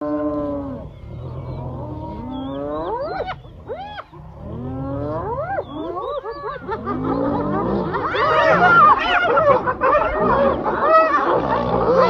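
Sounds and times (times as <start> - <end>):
hyenas whooping: 0.0 - 12.0
hyena yelps: 1.4 - 4.2, 5.0 - 12.0.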